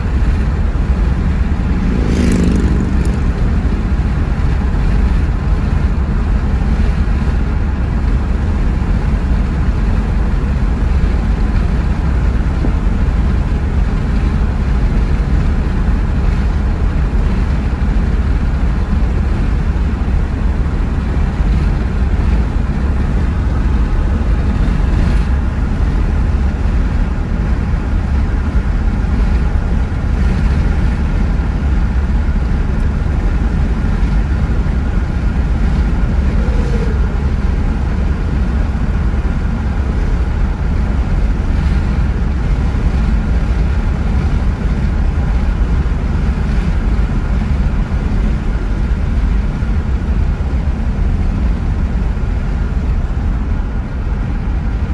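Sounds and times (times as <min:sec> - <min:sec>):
car cabin road and engine rumble: 0:00.0 - 0:54.9.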